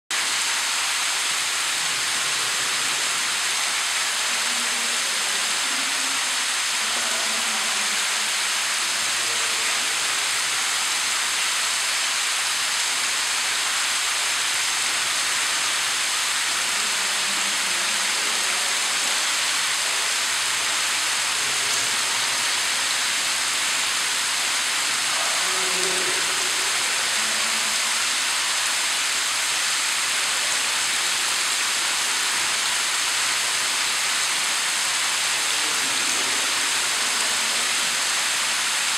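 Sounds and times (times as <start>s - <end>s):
steady hiss: 0.1s - 38.9s.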